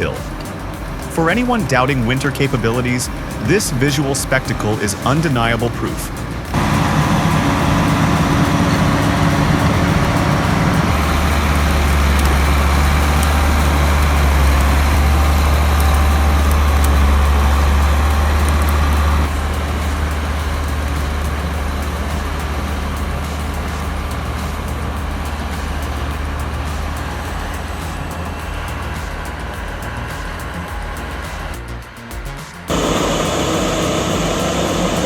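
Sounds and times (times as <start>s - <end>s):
heavy diesel engines droning: 0.0s - 35.0s.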